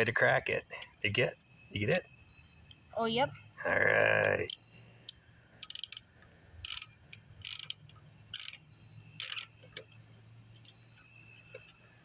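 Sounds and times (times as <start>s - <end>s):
steady high chirping: 0.0s - 12.0s.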